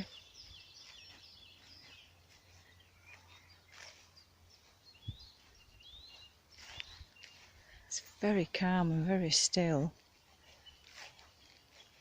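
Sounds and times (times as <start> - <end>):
birds chirping and twittering: 0.0 - 12.0.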